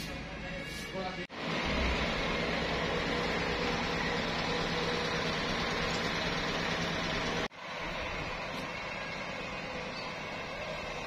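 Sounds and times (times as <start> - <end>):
sawmill machinery humming: 1.3 - 11.0.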